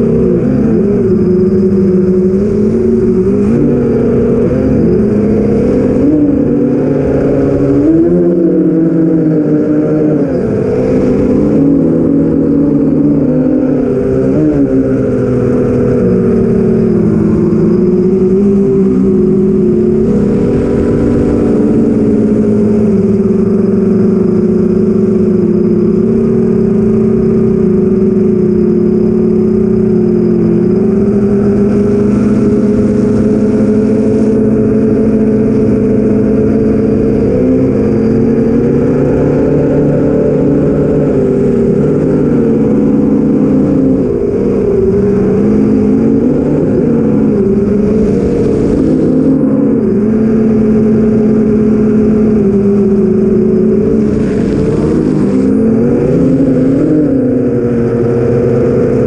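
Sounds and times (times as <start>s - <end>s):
quadcopter motors buzzing whine: 0.0s - 59.0s.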